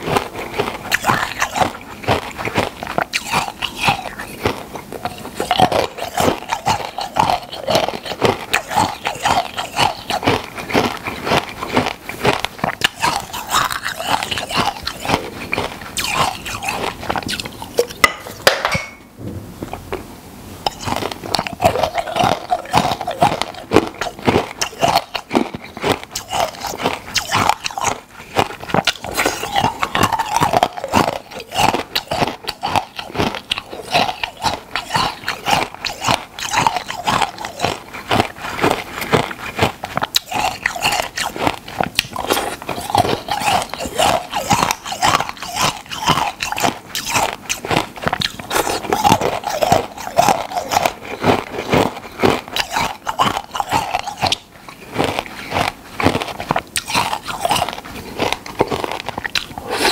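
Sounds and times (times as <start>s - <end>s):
crunching and chewing food: 0.0s - 59.9s.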